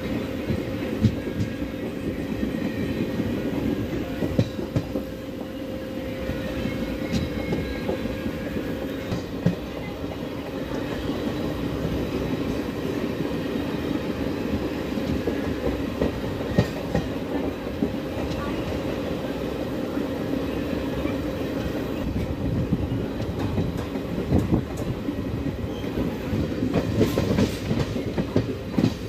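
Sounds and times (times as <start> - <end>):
train rumble and hum: 0.0 - 29.0.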